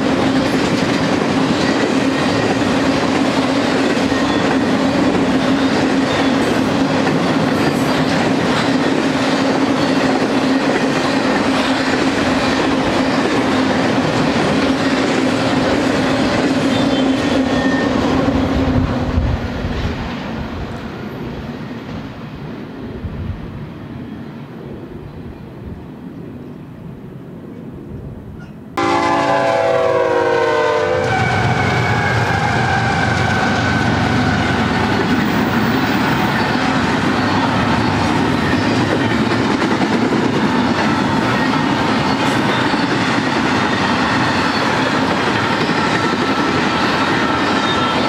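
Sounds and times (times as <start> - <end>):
train wheels rumbling on track: 0.0 - 48.0.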